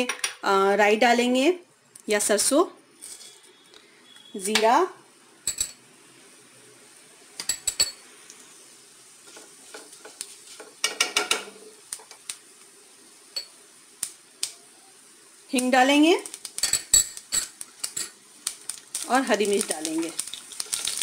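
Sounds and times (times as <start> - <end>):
seeds sizzling in hot oil: 0.0 - 21.0.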